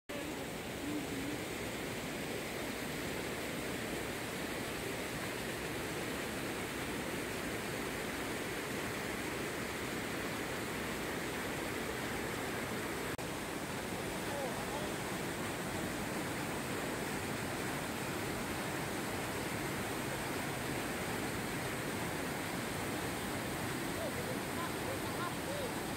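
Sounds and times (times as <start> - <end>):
water rushing over a spillway: 0.1 - 25.9.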